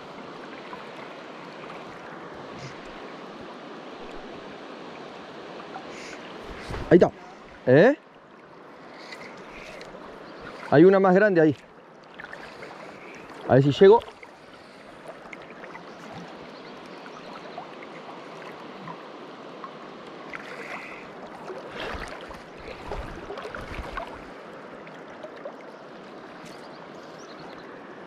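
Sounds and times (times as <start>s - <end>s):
river water rushing over stones: 0.0s - 27.0s.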